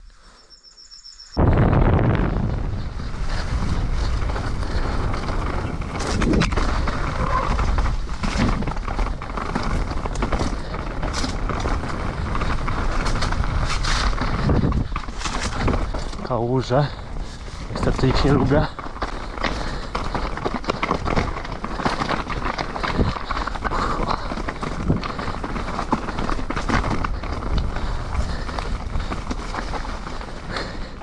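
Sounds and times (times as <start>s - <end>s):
wind noise on microphone: 1.4s - 31.0s
bike rattling and knocking: 3.3s - 31.0s
tyres on wet ground: 4.3s - 31.0s.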